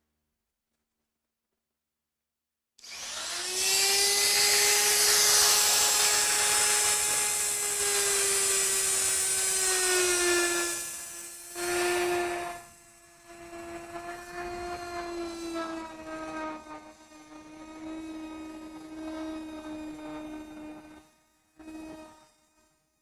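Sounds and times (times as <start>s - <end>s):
electric motor whine: 2.8s - 22.3s.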